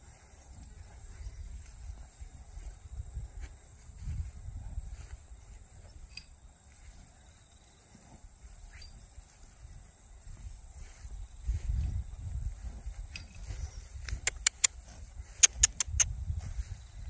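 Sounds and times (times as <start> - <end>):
wind rumble on microphone: 0.0 - 6.2, 8.0 - 17.0.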